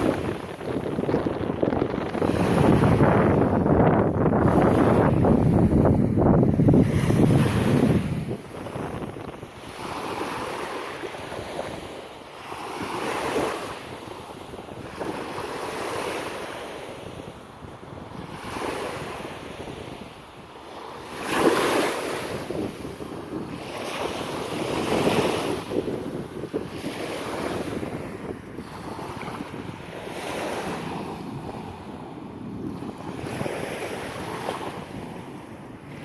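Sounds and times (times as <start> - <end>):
waves washing onto beach: 0.0 - 36.0
wind buffeting microphone: 0.0 - 36.0.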